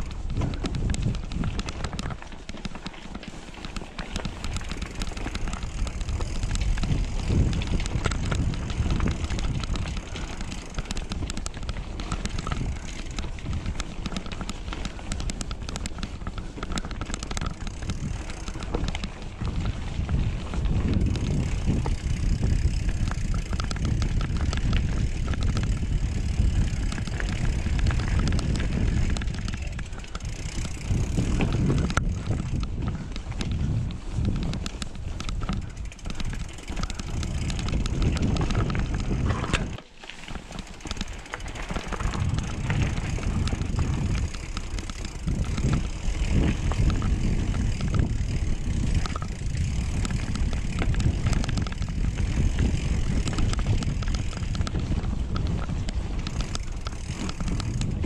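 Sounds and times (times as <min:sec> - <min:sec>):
bike clattering over rough ground: 0:00.0 - 0:58.0
wind rumble on microphone: 0:00.0 - 0:58.0.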